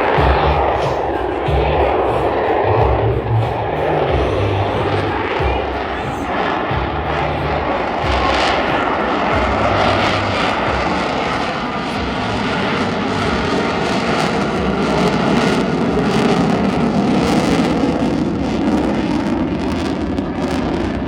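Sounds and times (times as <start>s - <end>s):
fighter jet engine roaring: 0.0s - 21.0s.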